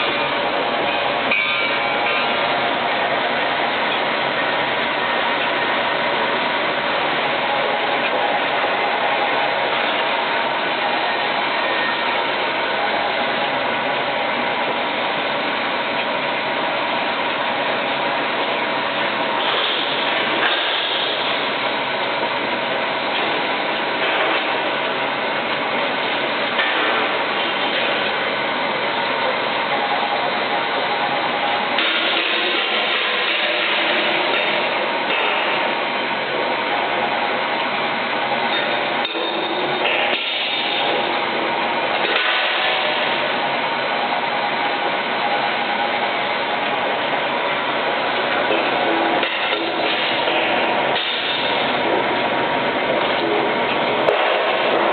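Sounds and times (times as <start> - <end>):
bottle rinsing machine clattering: 0.0 - 54.9.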